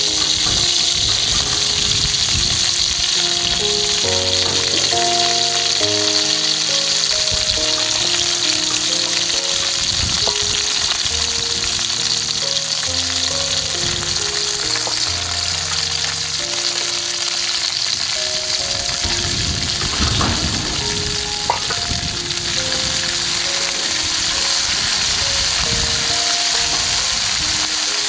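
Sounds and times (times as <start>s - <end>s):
food sizzling in a pan: 0.0s - 28.0s
soft instrumental music: 0.0s - 28.0s.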